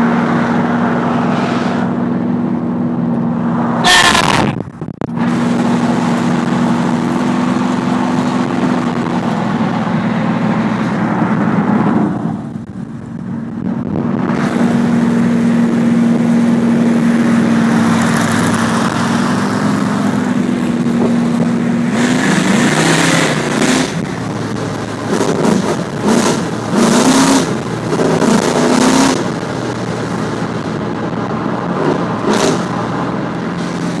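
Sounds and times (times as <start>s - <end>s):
car engine drone: 0.0s - 34.0s
road and wind noise: 0.0s - 34.0s.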